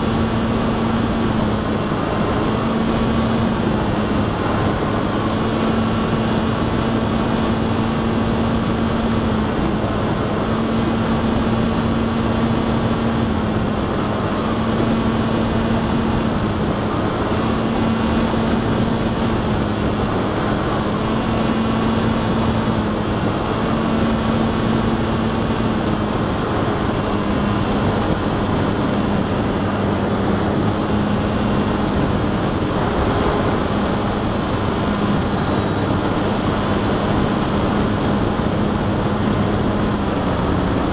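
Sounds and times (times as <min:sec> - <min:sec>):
short high beep: 0:00.0 - 0:04.8, 0:05.5 - 0:20.3, 0:21.0 - 0:28.1, 0:28.8 - 0:29.9, 0:30.6 - 0:31.9, 0:33.3 - 0:34.5, 0:37.4 - 0:38.8, 0:39.6 - 0:40.9
low hum: 0:00.0 - 0:35.2
model aircraft motor and airflow: 0:00.0 - 0:40.9.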